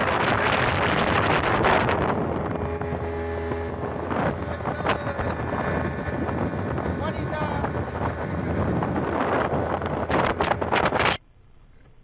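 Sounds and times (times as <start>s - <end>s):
outboard motor running: 0.0s - 11.2s
wind buffeting microphone: 0.0s - 11.2s.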